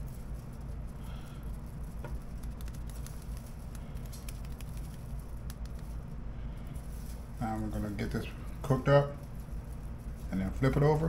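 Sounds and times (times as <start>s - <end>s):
seasoning pattering from shaker: 0.0s - 11.0s
steady low hum: 0.0s - 11.0s.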